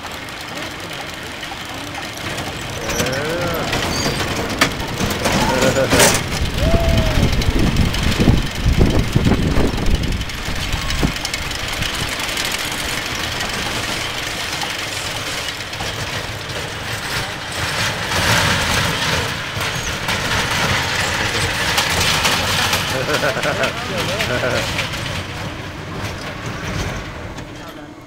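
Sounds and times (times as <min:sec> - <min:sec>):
roller coaster clattering on track: 0:00.0 - 0:28.0.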